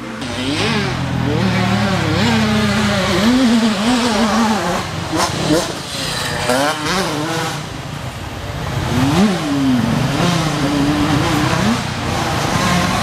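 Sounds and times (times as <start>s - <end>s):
motocross bike engine revving: 0.0s - 8.0s, 8.6s - 13.0s.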